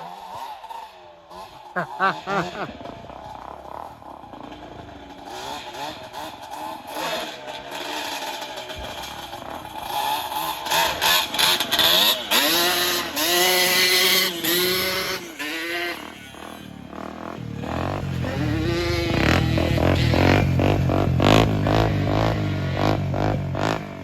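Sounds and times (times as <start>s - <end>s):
quad engine revving: 0.0s - 24.0s.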